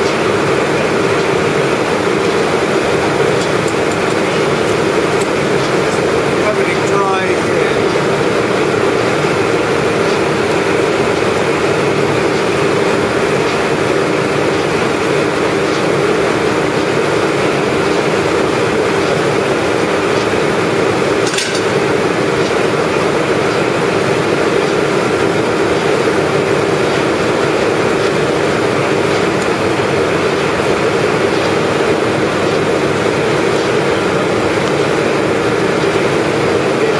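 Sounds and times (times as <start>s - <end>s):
machinery droning: 0.0s - 36.9s.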